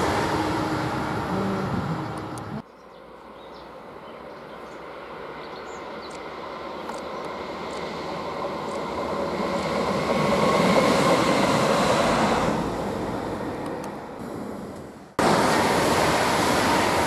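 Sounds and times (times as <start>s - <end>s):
train wheels on rail: 0.0s - 2.6s, 4.2s - 17.0s.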